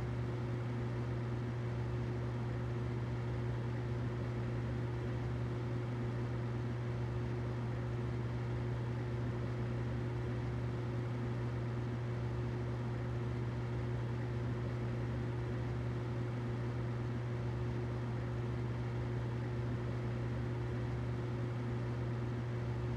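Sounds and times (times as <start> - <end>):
humidifier hum and hiss: 0.0 - 22.9.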